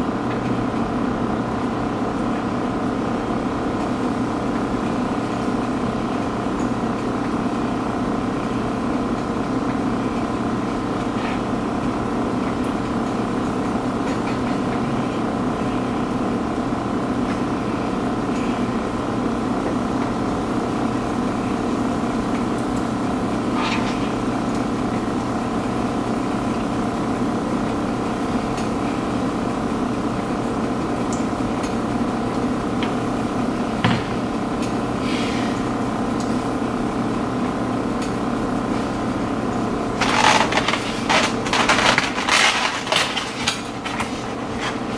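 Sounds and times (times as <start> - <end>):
steady machine hum: 0.0 - 44.9.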